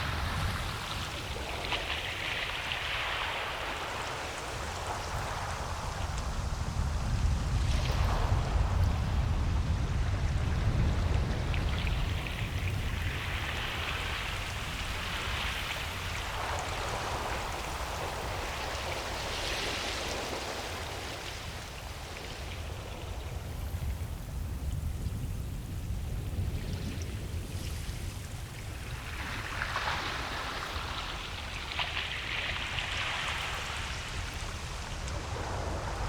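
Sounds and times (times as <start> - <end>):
ocean surf washing onto beach: 0.0 - 36.0.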